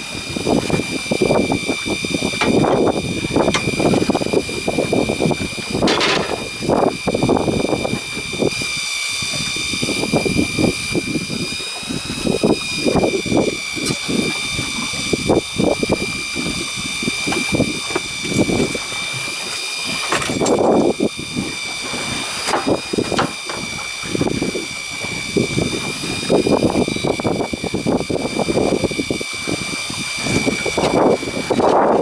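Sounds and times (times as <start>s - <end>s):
steady high whine: 0.0s - 32.0s
wind buffeting microphone: 0.0s - 32.0s.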